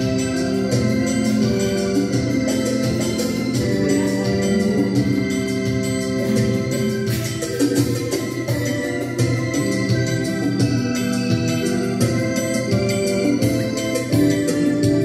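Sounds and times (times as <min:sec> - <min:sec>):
electronic keyboard organ chords: 0:00.0 - 0:15.0.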